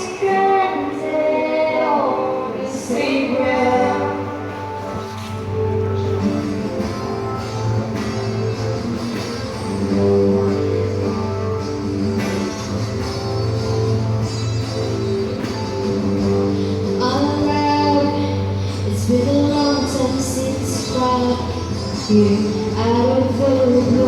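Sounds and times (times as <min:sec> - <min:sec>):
rock guitar chords: 0:02.4 - 0:24.0
drum kit playing: 0:04.2 - 0:24.0.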